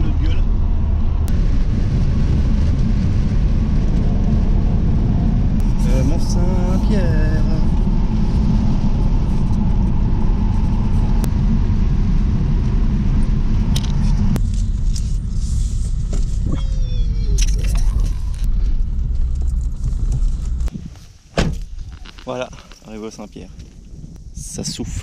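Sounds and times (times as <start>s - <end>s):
car engine and tyre noise: 0.0s - 25.0s.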